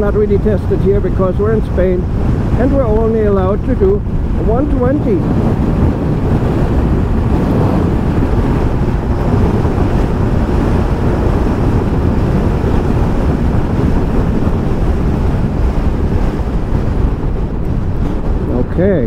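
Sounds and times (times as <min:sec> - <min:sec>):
heavy wind noise on microphone: 0:00.0 - 0:19.0.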